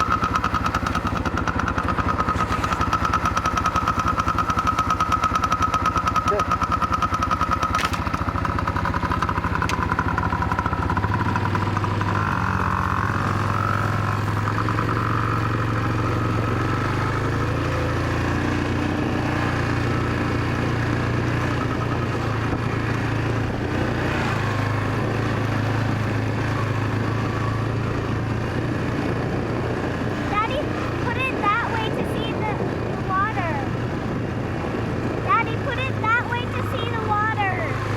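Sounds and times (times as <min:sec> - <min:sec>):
dirt bike engine running: 0:00.0 - 0:37.9.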